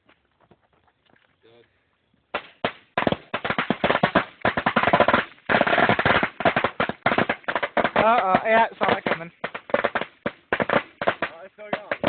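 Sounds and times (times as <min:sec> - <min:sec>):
firecrackers crackling: 0:02.3 - 0:12.0.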